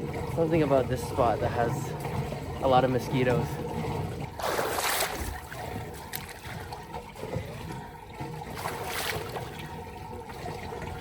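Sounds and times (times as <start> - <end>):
water trickling and sloshing: 0.0 - 11.0.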